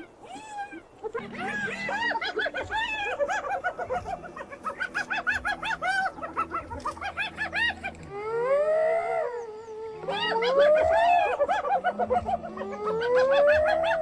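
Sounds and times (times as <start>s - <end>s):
hyenas giggling: 0.0s - 14.0s.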